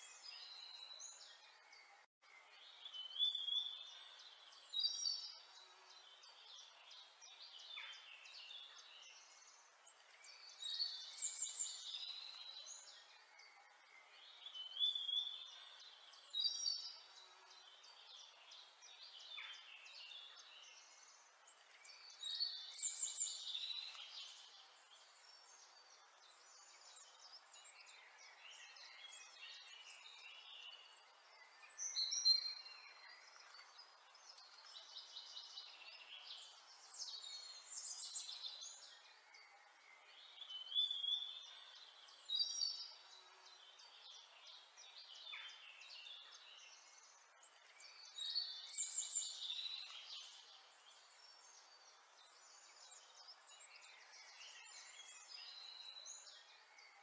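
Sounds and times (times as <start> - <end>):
birds chirping and singing: 0.0 - 57.0
faint steady hiss: 0.0 - 57.0.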